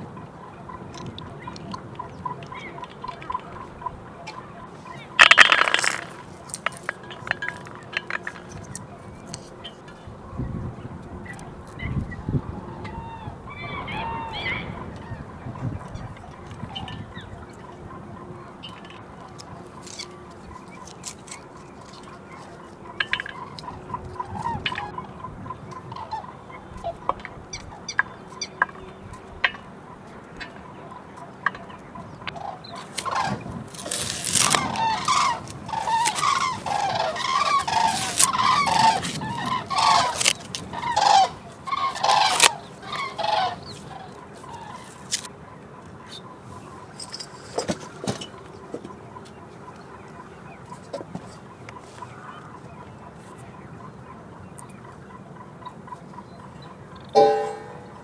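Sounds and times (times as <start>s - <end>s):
chickens clucking and squawking: 0.0s - 58.0s.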